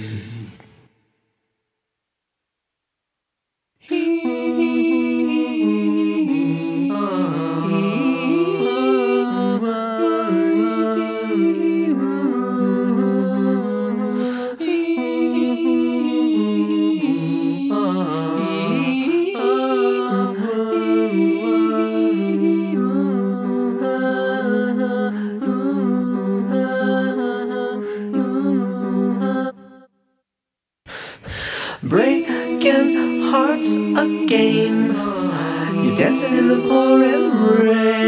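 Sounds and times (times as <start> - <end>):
men singing a cappella harmony: 3.8 - 29.9, 31.4 - 38.0.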